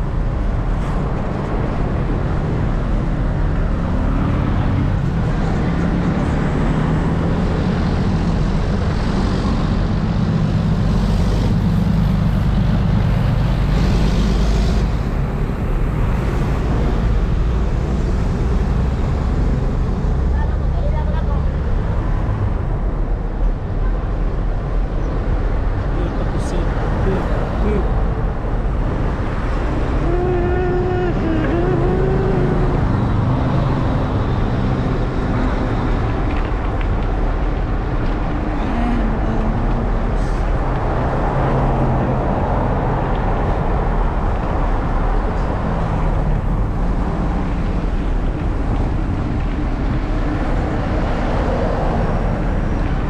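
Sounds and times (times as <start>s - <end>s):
road traffic passing: 0.0s - 53.0s
wind rumble on microphone: 0.0s - 53.0s.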